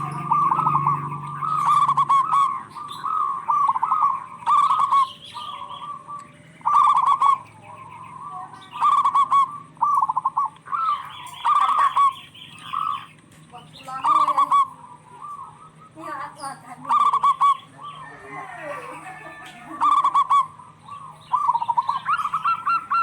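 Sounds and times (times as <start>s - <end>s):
doves cooing: 0.0s - 23.0s.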